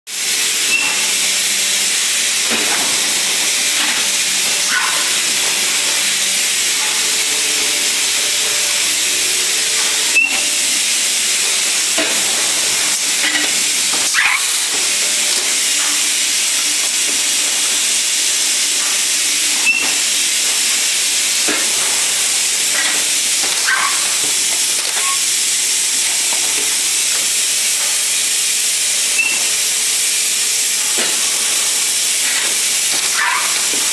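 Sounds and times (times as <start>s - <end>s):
machine running with loud hiss: 0.1s - 33.9s.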